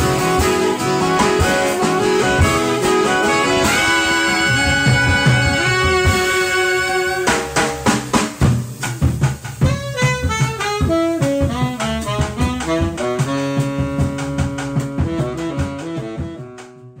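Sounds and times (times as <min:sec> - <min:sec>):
drum kit: 0:00.0 - 0:17.0
jazz saxophone section: 0:00.0 - 0:17.0
upright bass: 0:00.0 - 0:17.0.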